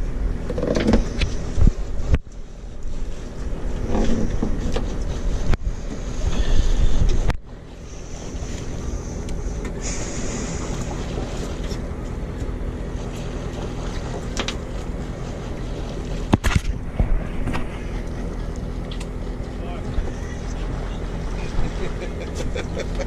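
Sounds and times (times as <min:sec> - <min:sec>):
boat engine running: 0:00.0 - 0:23.0
water noise: 0:00.0 - 0:23.0
wind: 0:00.0 - 0:23.0.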